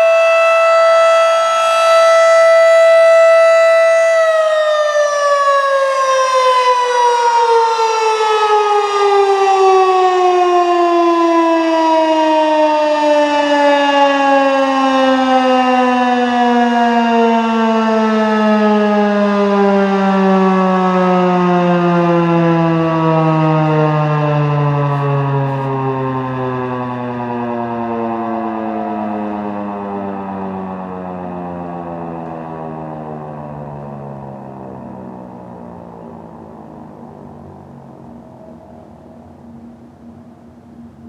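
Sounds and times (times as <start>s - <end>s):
outdoor warning siren winding down: 0.0s - 41.0s.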